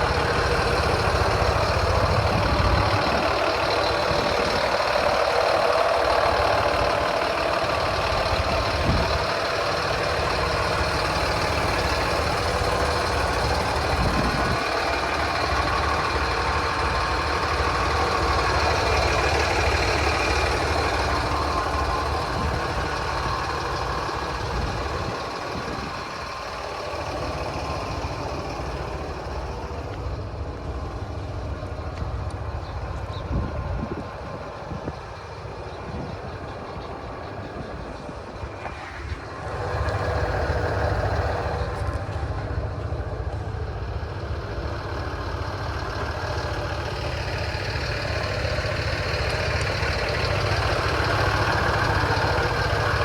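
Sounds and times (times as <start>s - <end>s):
diesel truck engine idling: 0.0s - 53.0s.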